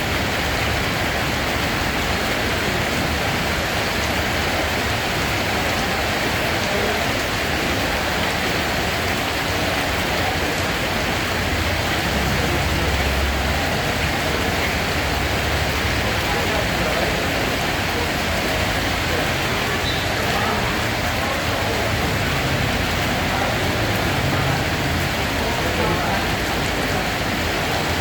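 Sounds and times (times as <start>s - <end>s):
heavy rain hiss: 0.0s - 28.0s.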